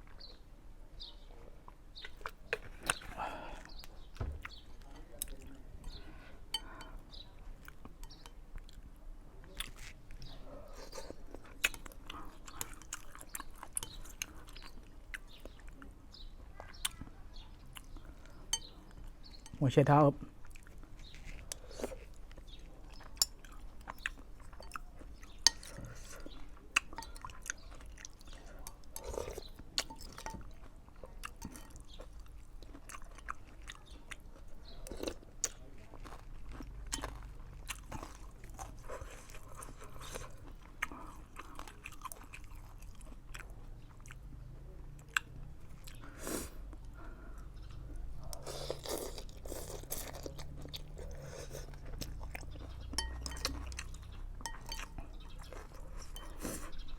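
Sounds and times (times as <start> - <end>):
person chewing and crunching: 1.6 - 19.5, 20.2 - 56.9.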